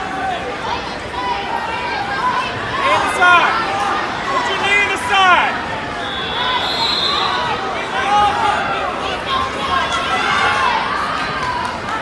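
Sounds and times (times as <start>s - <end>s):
crowd shouting and cheering: 0.0s - 12.0s.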